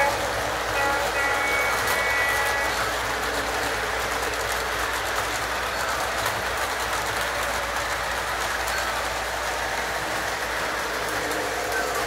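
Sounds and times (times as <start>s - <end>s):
model train wheels rolling: 0.0s - 12.0s.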